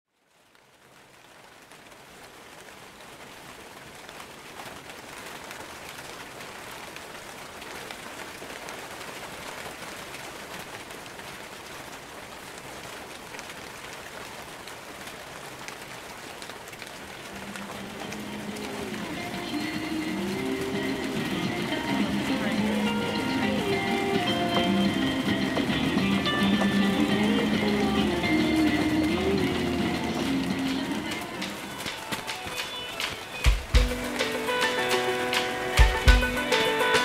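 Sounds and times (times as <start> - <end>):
steady rain: 0.1 - 37.0.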